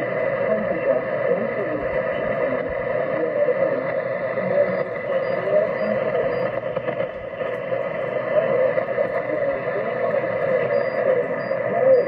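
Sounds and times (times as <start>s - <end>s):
radio static and hiss: 0.0s - 12.0s
weak radio voice: 0.0s - 12.0s.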